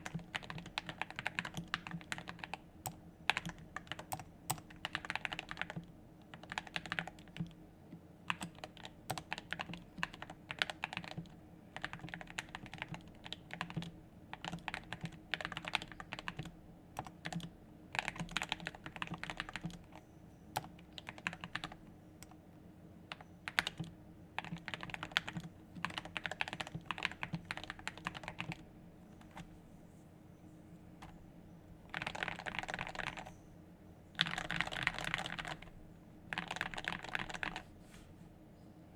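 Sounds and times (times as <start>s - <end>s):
mechanical keyboard typing: 0.0s - 7.6s, 8.3s - 20.0s, 20.6s - 22.4s, 23.1s - 28.6s, 31.9s - 33.3s, 34.2s - 37.6s
faint steady hum: 0.0s - 38.9s.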